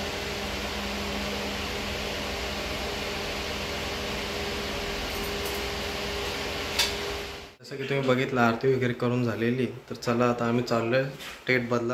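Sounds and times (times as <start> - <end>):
fan whirring: 0.0 - 10.9.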